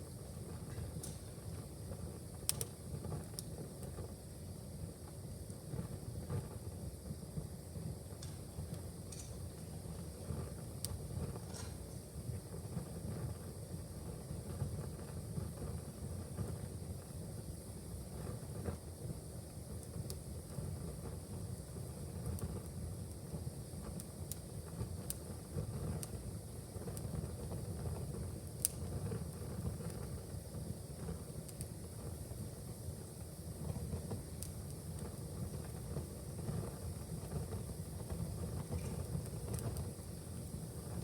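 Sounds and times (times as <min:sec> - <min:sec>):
wood fire crackling: 0:00.1 - 0:41.0.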